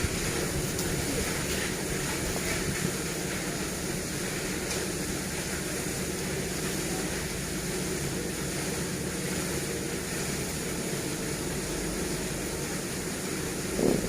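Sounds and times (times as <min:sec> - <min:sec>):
machinery drone with hiss: 0:00.0 - 0:14.0.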